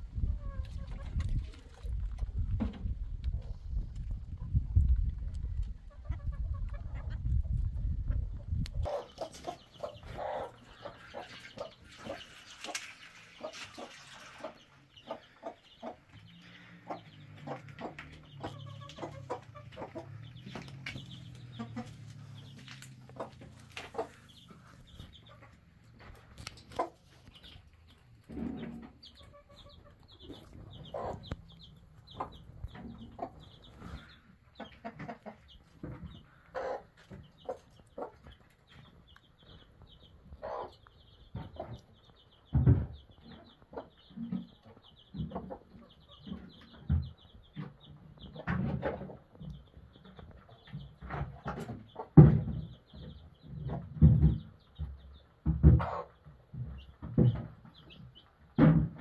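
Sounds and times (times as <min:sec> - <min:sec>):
chicks peeping: 0:00.0 - 0:59.0
hen clucking softly: 0:00.1 - 0:02.0, 0:05.4 - 0:42.3, 0:43.1 - 0:54.0, 0:55.7 - 0:58.0.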